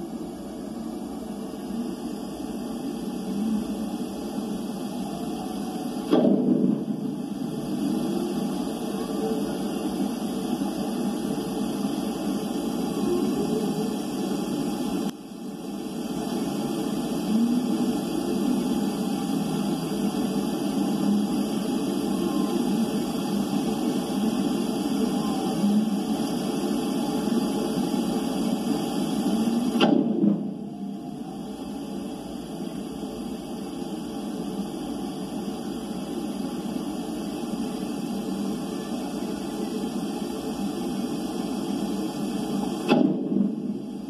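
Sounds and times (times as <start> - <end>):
low underwater rushing hiss: 0.0 - 44.0.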